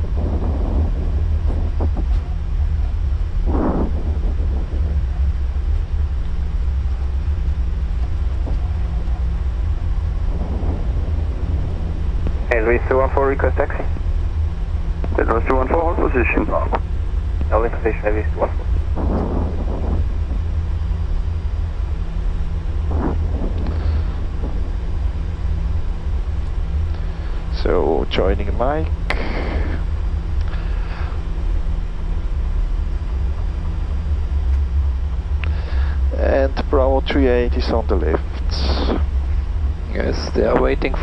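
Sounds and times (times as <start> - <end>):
jet engines idling rumble: 0.0 - 41.0.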